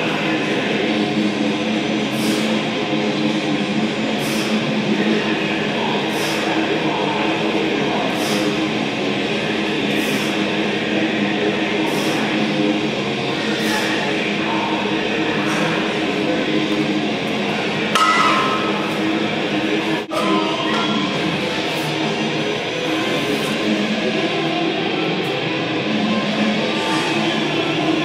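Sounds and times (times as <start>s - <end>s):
music with singing: 0.0s - 28.0s.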